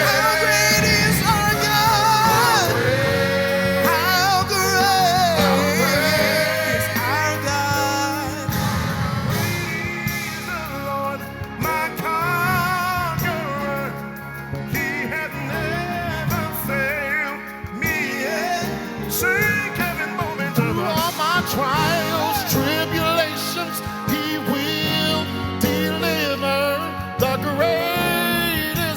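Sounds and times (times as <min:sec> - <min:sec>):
held instrumental accompaniment: 0:00.0 - 0:28.9
person singing with vibrato: 0:00.0 - 0:28.9.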